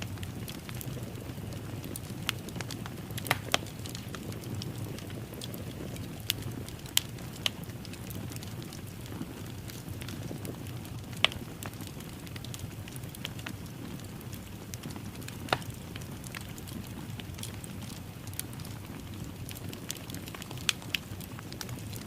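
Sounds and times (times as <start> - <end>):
low rumble of fire: 0.0 - 22.0
wood fire crackling: 0.0 - 22.0.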